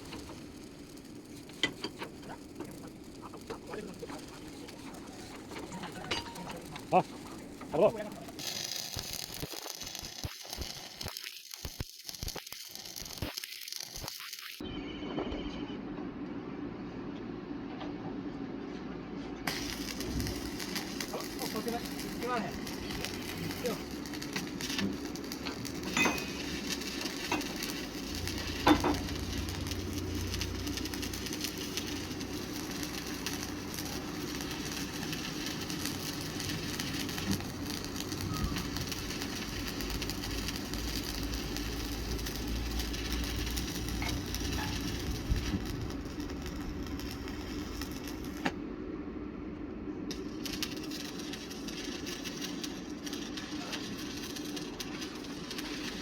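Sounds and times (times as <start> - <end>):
machine hum: 0.0 - 9.5, 14.6 - 56.0
arc welding crackling sizzle: 0.0 - 14.6, 19.4 - 56.0.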